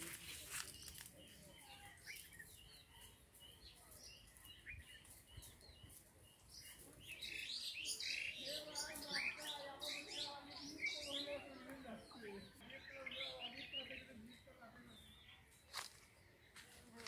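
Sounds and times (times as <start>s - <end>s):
quiet outdoor ambience: 0.0s - 17.0s.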